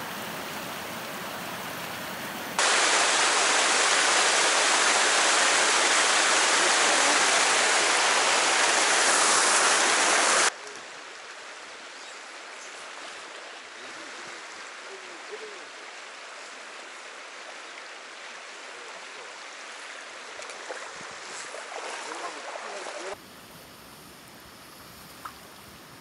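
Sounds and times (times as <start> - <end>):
rushing mountain stream: 0.0 - 23.2
faint flowing water: 0.0 - 26.0.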